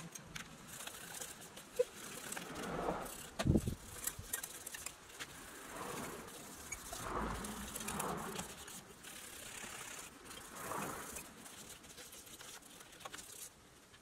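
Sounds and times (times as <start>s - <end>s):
sandpaper rasping on metal: 0.7s - 13.5s.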